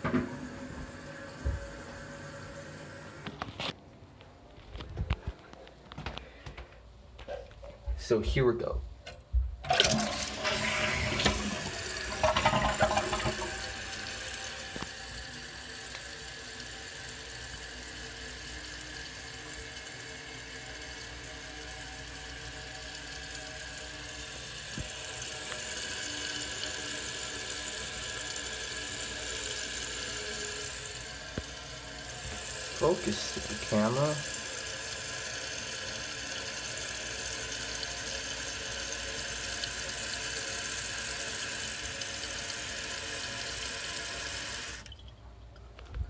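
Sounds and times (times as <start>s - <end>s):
fill valve hissing water: 0.0s - 3.4s, 9.6s - 45.0s.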